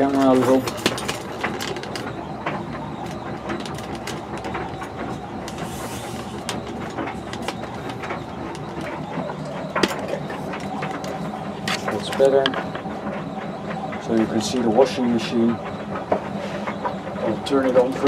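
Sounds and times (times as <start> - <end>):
squeaky drum rollers: 0.0 - 18.0
tumble dryer whirring: 0.0 - 18.0.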